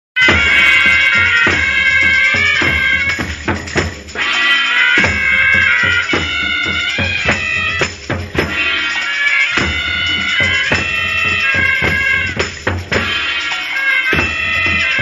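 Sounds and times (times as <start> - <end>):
snare and bass drums: 0.2 - 13.5, 14.1 - 15.0.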